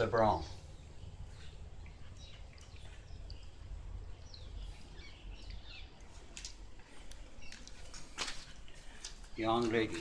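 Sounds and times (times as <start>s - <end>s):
birds chirping: 0.0s - 10.0s
low outdoor rumble: 0.0s - 10.0s.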